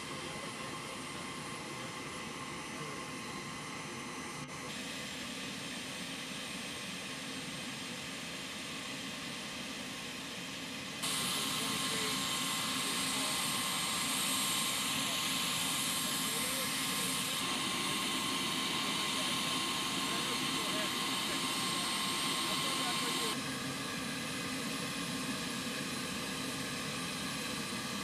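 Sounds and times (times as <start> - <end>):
aircraft turbine engines roaring: 0.0 - 28.0.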